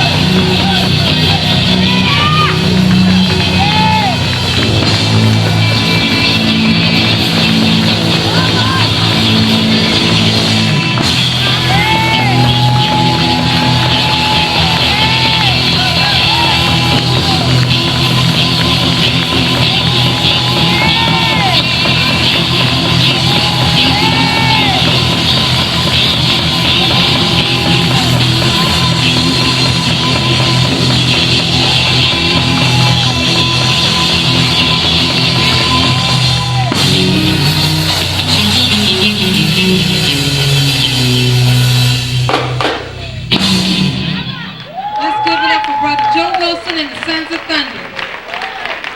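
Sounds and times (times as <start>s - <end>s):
live gospel band music: 0.0s - 48.9s.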